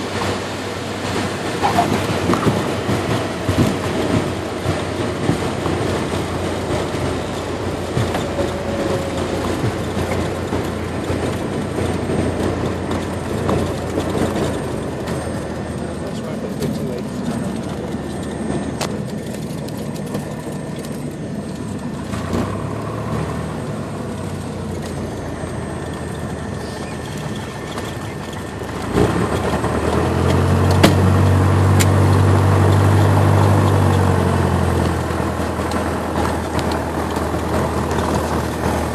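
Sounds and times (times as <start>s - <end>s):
airplane engine drone in cabin: 0.0s - 38.9s.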